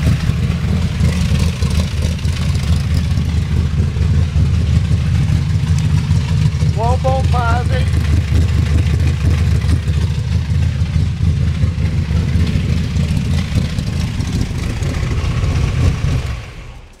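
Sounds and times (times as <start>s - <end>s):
car engine idling loudly: 0.0s - 17.0s.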